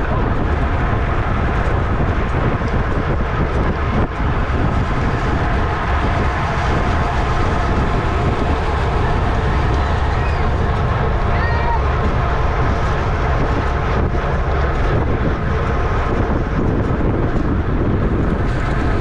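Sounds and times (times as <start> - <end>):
tyres humming on pavement: 0.0 - 19.0
wind rushing over microphone: 0.0 - 19.0.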